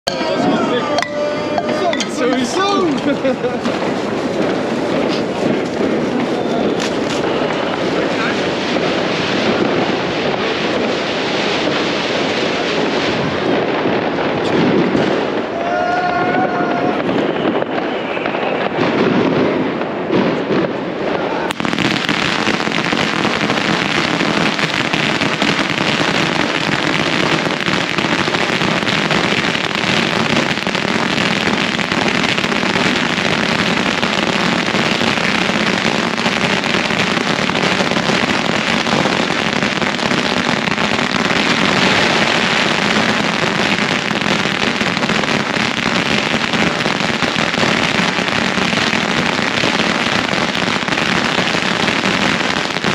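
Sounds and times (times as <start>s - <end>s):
fireworks crackling and popping: 0.0s - 52.9s.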